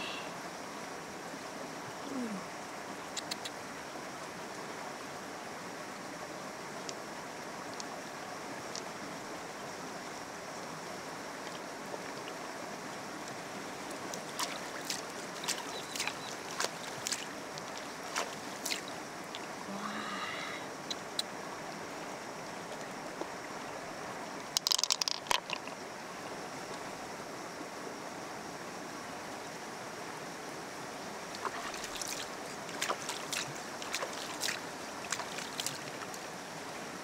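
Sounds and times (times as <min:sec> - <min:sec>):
rushing water noise: 0:00.0 - 0:37.0.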